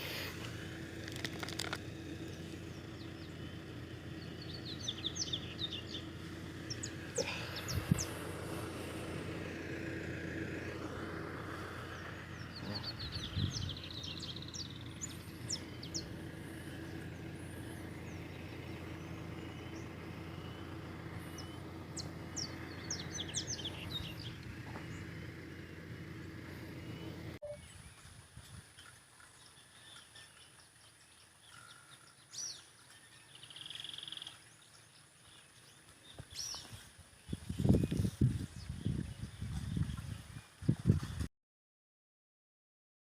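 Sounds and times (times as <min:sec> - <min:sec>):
birds chirping: 0:00.0 - 0:41.3
engine hum: 0:00.0 - 0:41.3.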